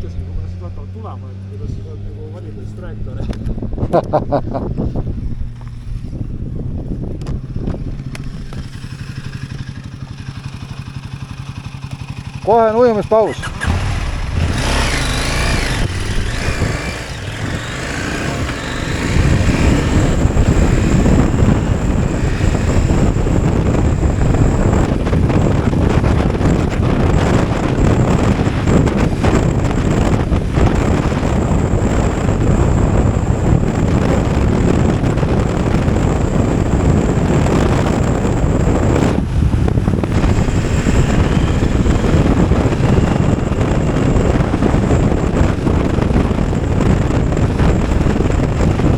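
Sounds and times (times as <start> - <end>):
motorcycle engine running: 0.0 - 48.9
wind noise on microphone: 0.0 - 48.9.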